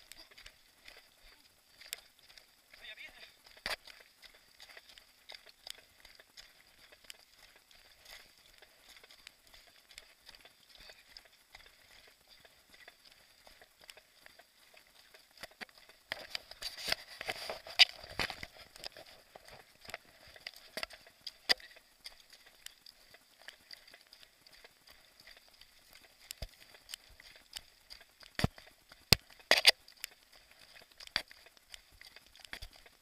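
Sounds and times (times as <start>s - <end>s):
footsteps running on loose rock: 0.0s - 33.0s.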